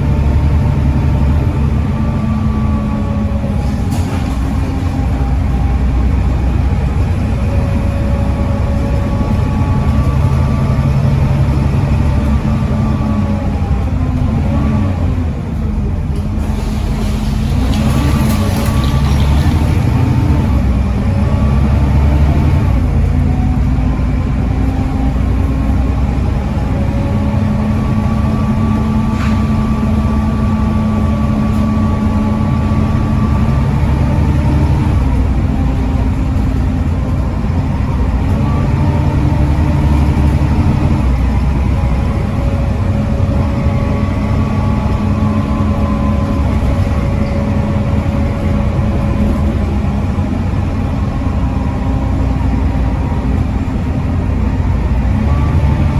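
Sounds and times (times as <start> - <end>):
bus diesel engine rumbling: 0.0 - 55.9.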